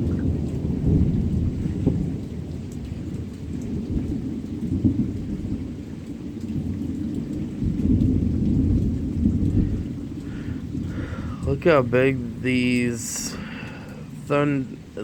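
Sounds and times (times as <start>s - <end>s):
steady rain falling: 0.0s - 15.0s
thunder rumbling: 0.0s - 15.0s.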